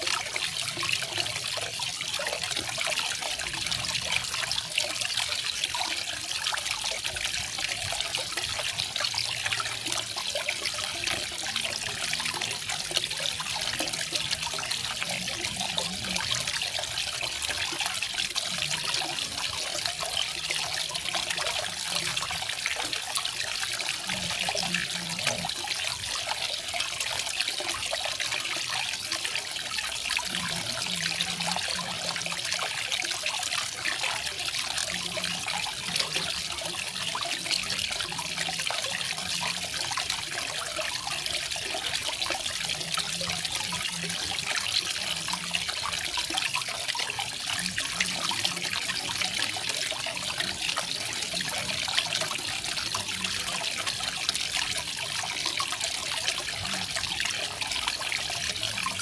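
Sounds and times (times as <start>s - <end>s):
waterfall splashing and trickling: 0.0s - 59.0s.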